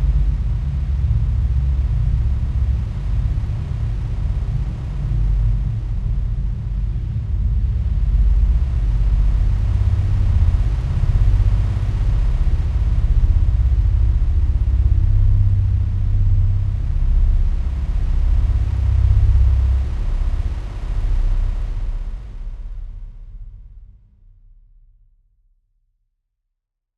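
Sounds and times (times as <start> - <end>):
low fluttering rumble: 0.0 - 25.1.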